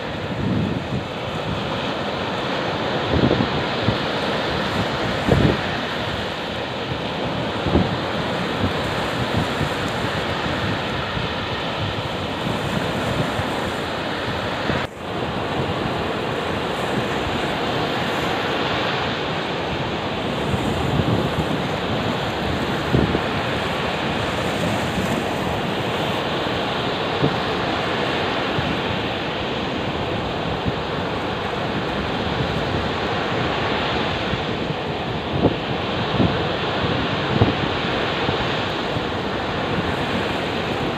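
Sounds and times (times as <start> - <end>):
rough surf breaking on shore: 0.0 - 40.9
wind buffeting microphone: 0.0 - 40.9.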